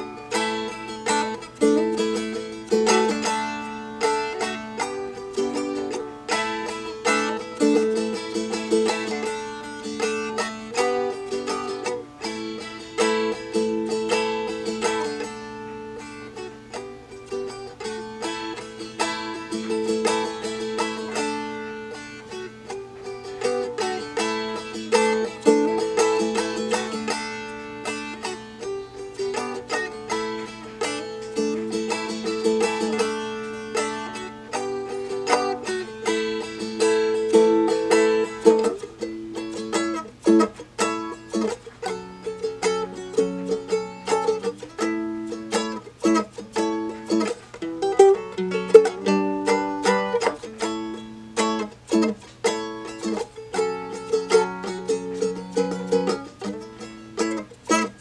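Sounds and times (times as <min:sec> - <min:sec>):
dulcimer picked and strummed: 0:00.0 - 0:58.0.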